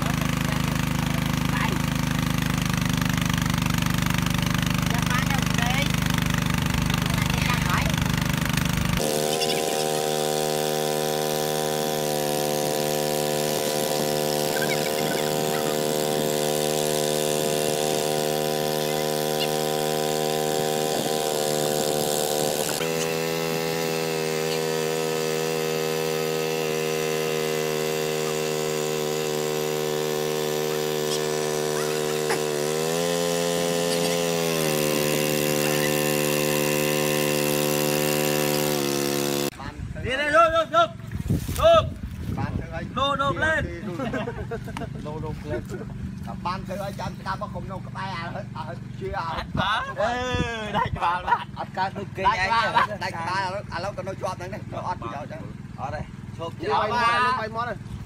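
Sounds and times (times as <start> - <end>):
small engine running: 0.0 - 39.8, 42.2 - 58.0.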